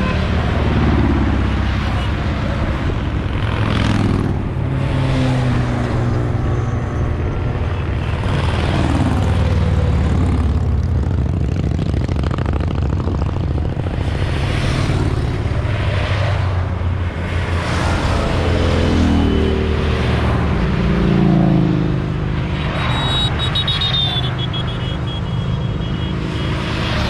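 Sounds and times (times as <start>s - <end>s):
motorcycle engines rumbling: 0.0s - 27.0s
motorcycle passing by: 0.0s - 27.0s.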